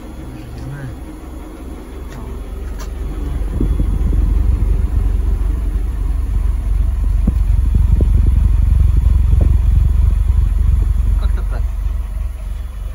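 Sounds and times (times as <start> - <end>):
car exhaust idling rough: 0.0 - 12.9.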